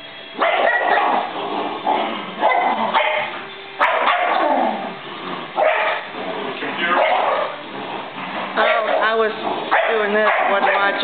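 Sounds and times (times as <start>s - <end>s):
dogs barking: 0.4s - 11.0s.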